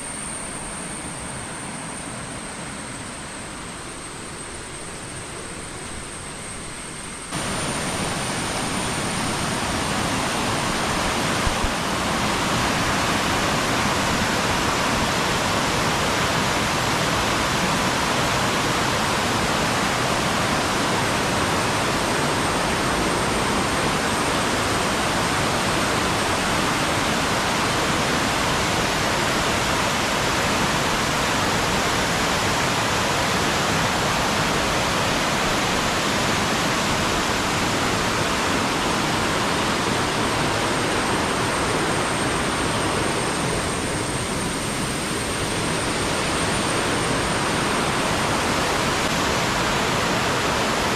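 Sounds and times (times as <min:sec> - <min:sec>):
water rushing: 0:06.4 - 0:50.9.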